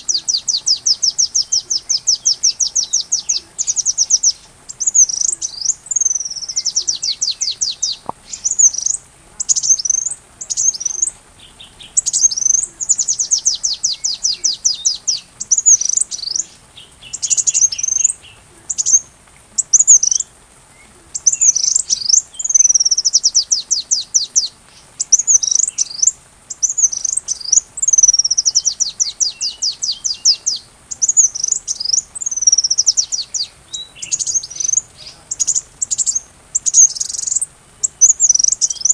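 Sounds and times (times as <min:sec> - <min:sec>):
sunbird singing shrill song: 0:00.0 - 0:38.9.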